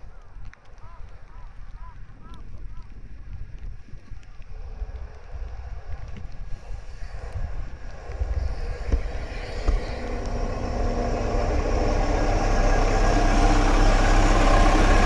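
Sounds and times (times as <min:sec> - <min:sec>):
diesel engine low rumble: 0:02.9 - 0:15.0.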